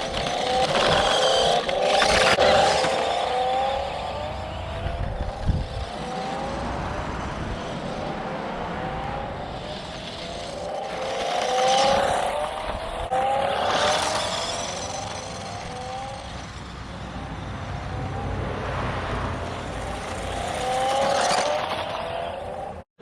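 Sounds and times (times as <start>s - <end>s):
toy truck electric motor whining: 0.0s - 8.0s, 9.3s - 17.7s, 19.4s - 22.8s.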